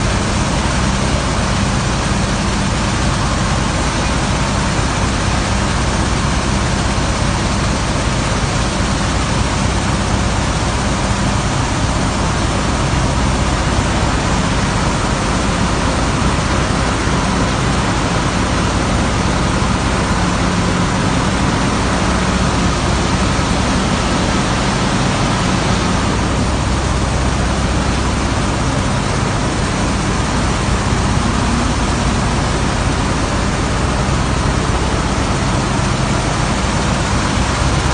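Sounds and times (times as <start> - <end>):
low motor hum: 0.0 - 37.9
water and wet sand rushing: 0.0 - 37.9.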